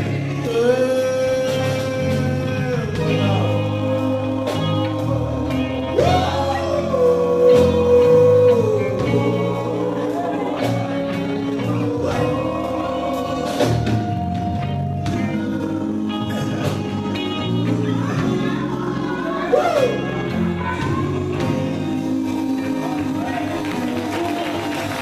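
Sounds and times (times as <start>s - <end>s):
band playing: 0.0s - 25.0s
gospel group singing: 0.0s - 25.0s
guitar: 0.0s - 25.0s.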